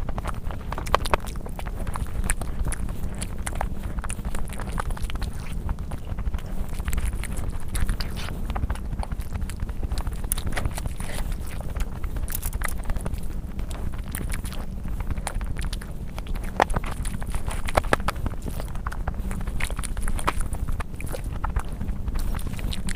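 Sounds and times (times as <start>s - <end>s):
chewing and mouth sounds: 0.0s - 22.9s
steady low rumble: 0.0s - 22.9s.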